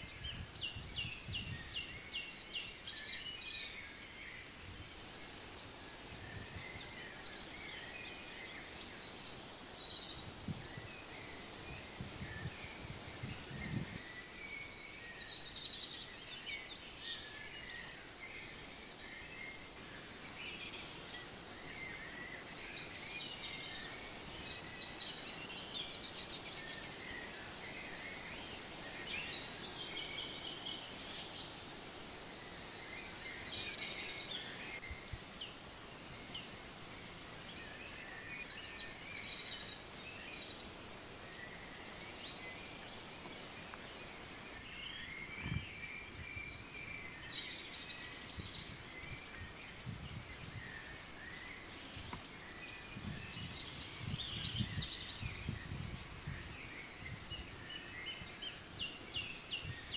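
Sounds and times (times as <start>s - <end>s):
faint outdoor background: 0.0s - 59.9s
songbirds singing and chirping: 0.0s - 59.9s.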